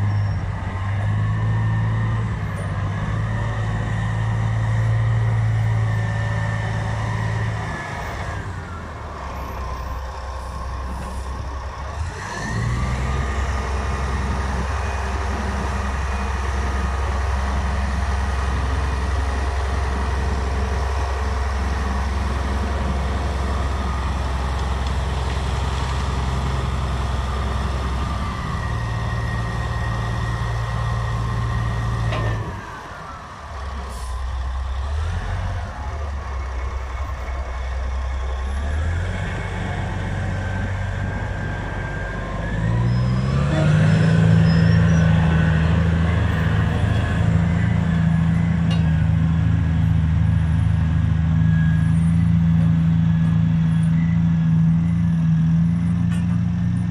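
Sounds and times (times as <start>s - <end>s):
large diesel engine running: 0.0s - 56.9s.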